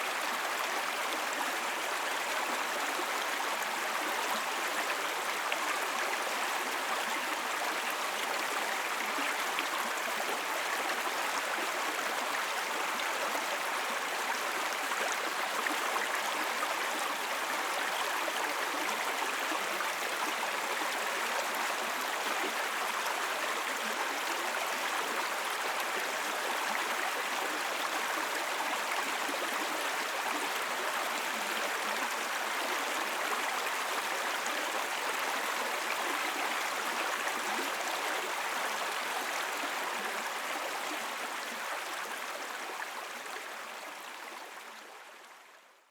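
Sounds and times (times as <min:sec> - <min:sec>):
brook babbling over stones: 0:00.0 - 0:45.6.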